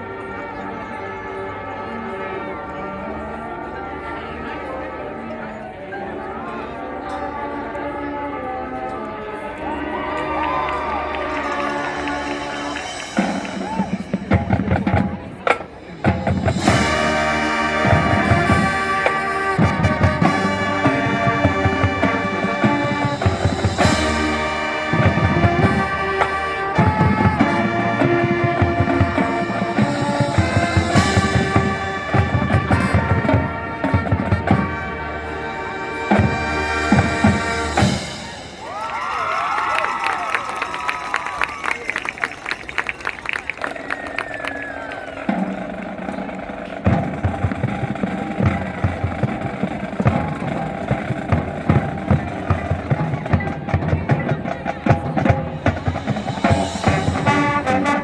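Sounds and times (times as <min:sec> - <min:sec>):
marching band playing: 0:00.0 - 0:58.0
drumline: 0:09.8 - 0:58.0.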